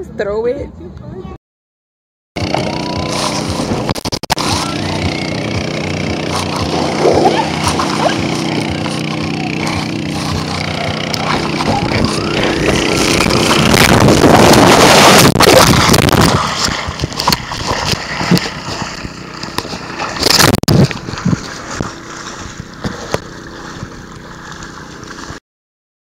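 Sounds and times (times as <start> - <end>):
splashing through muddy water: 2.4 - 25.4
water and wind rushing on microphone: 2.4 - 25.4.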